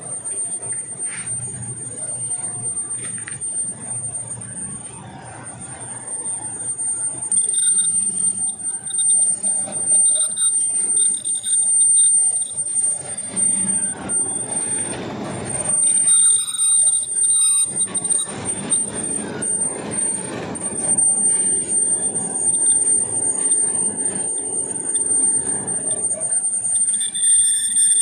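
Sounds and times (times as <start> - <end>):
high whine: 0.0 - 28.0
metal lathe running: 0.0 - 28.0
shrill ringing tone: 0.0 - 28.0.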